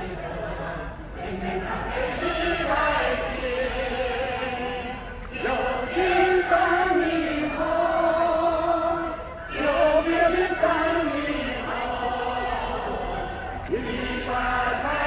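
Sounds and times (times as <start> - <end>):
elderly people singing together: 0.0 - 15.0.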